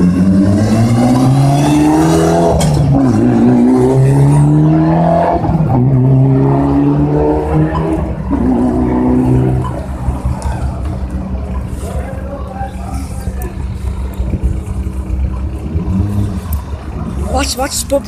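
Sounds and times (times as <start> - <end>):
car engine accelerating: 0.0 - 17.8.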